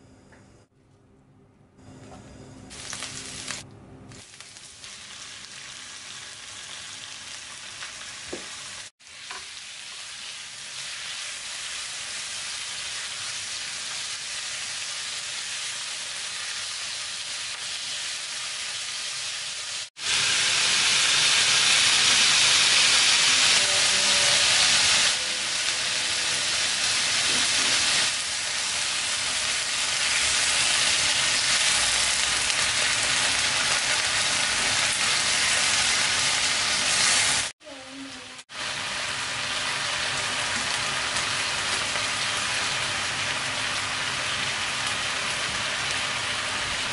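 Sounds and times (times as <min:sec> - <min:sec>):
meat and onions sizzling in oil: 0:02.7 - 0:46.9.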